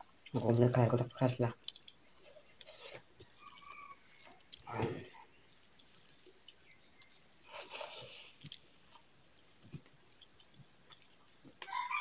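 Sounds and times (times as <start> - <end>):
person chewing: 1.0 - 12.0.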